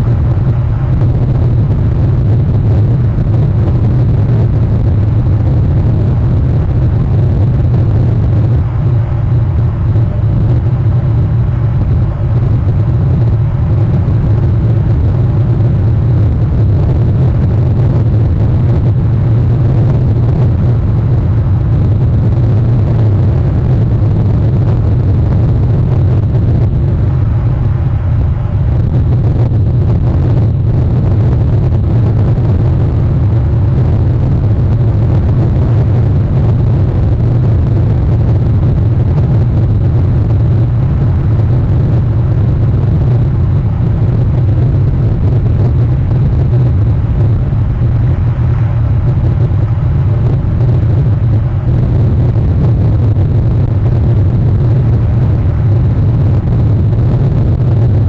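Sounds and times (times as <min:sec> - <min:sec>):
loud low rumble: 0:00.0 - 0:58.0.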